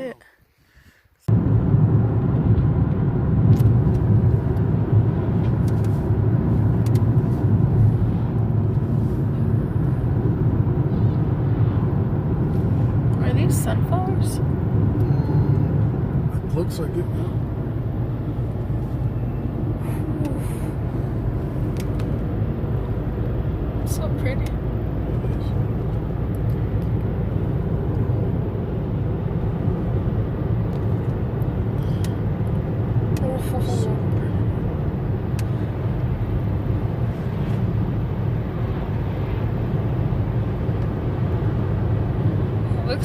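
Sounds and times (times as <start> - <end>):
road rumble inside a car: 1.2 - 43.0.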